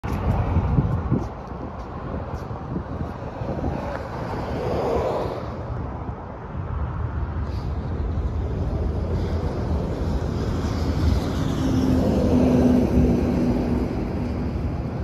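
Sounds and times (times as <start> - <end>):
road traffic passing: 0.0 - 15.0
wind buffeting microphone: 0.0 - 15.0.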